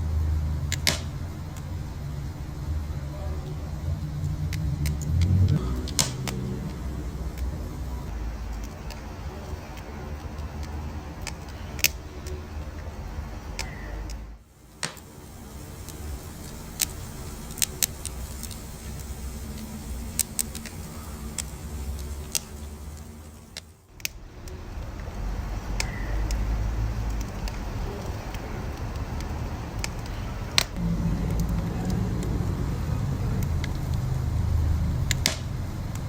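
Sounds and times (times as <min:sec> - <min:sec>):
low rumble of flames: 0:00.0 - 0:36.0
wood fire crackling and popping: 0:00.0 - 0:36.0.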